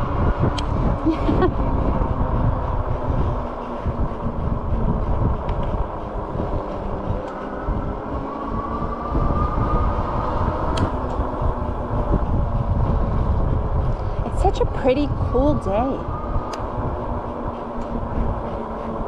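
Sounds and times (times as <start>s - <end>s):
bike rolling noise: 0.0s - 19.0s
faint motor whine: 0.0s - 19.0s
wind buffeting microphone: 0.0s - 19.0s.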